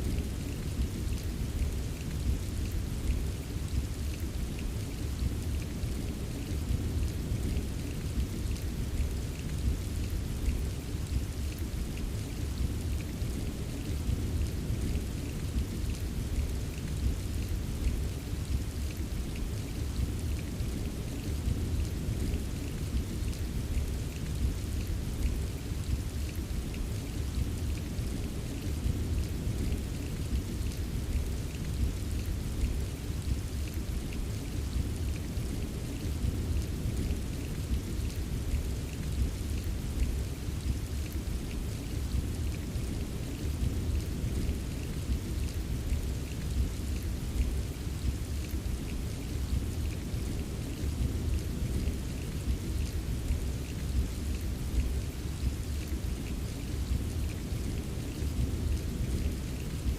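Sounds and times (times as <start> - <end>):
continuous rainfall: 0.0 - 59.9
rain drop ticks: 0.0 - 59.9.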